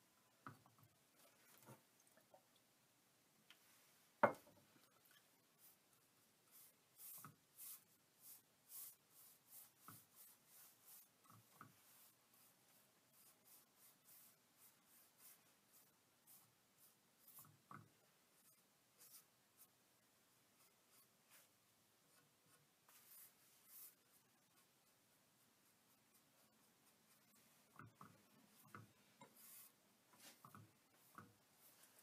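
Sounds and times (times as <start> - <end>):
paintbrush swishing on wood: 5.0 - 19.7, 20.6 - 32.0.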